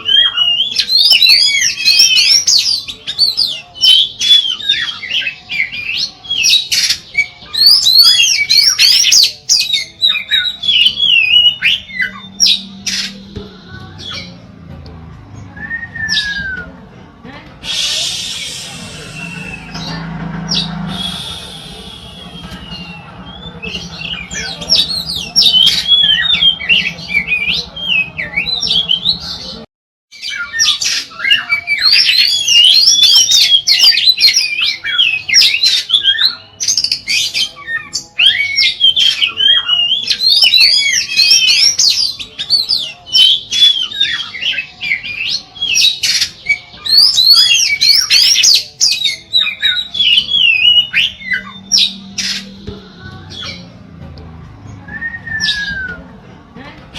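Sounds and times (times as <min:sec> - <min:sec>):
bird singing whistles and chatter: 0:00.0 - 0:14.6, 0:15.3 - 0:17.0, 0:17.6 - 0:54.0, 0:54.6 - 0:56.2.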